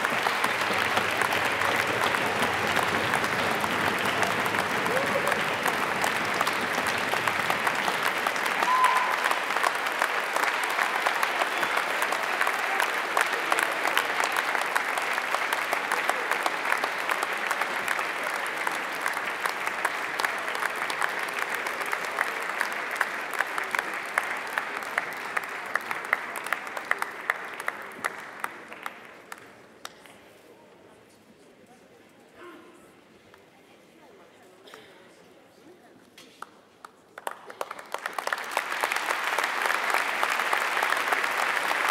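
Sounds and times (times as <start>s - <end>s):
audience applauding: 0.0s - 29.4s, 37.2s - 41.9s.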